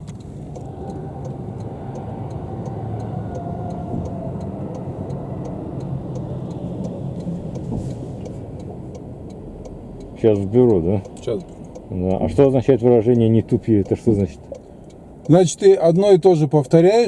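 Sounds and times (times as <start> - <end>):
light even ticking: 0.0 - 16.8
car driving rumble: 0.0 - 17.0.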